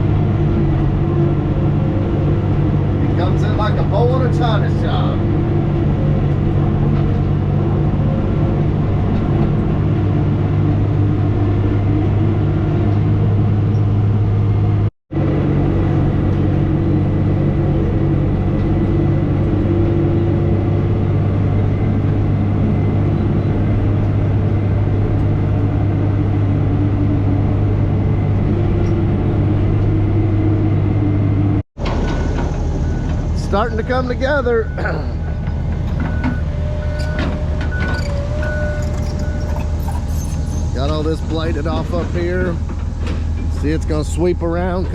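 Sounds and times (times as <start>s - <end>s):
heavy diesel engine droning: 0.0s - 44.9s.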